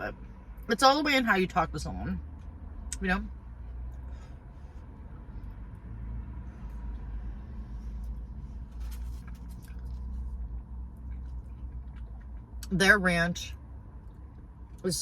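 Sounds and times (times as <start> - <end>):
car interior hum: 0.0 - 15.0.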